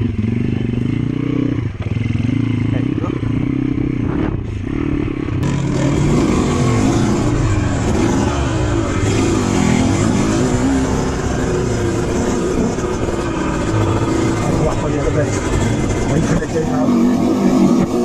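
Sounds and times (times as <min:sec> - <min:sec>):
dirt bike engine revving: 0:00.0 - 0:18.0
second dirt bike engine: 0:00.0 - 0:18.0.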